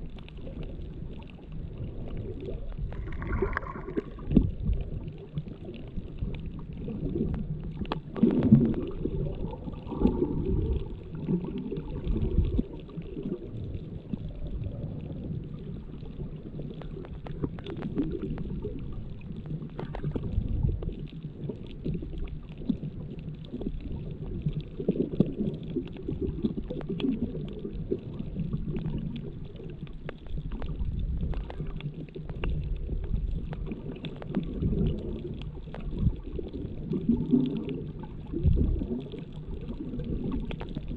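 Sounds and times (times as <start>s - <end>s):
muffled underwater water rumble: 0.0s - 40.9s.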